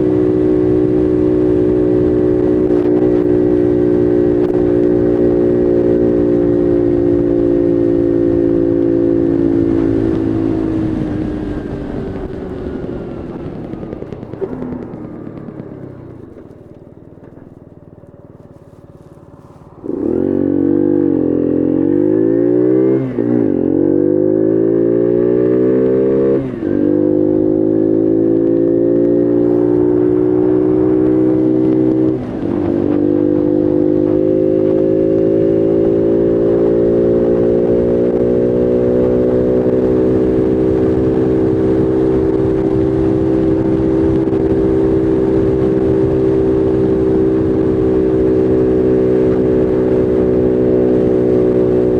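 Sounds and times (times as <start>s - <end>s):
small motorcycle engine accelerating: 0.0s - 51.9s.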